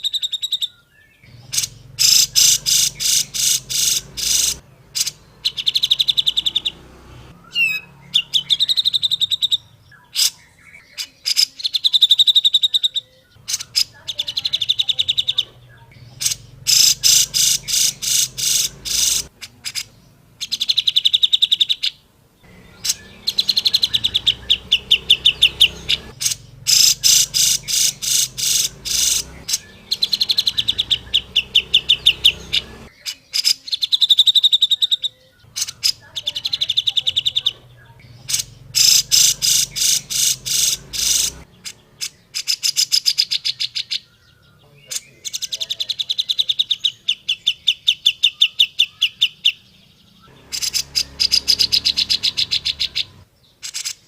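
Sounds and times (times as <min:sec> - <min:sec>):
bird singing sharp notes: 0:00.0 - 0:54.0.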